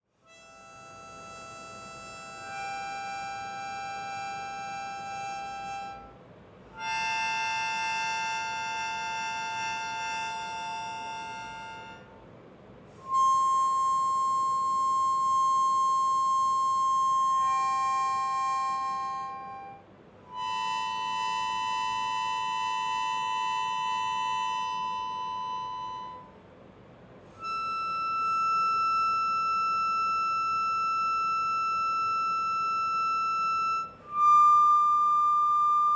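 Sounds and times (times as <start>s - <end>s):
slow held chords music: 0.2s - 12.2s, 13.0s - 26.4s, 27.3s - 35.9s.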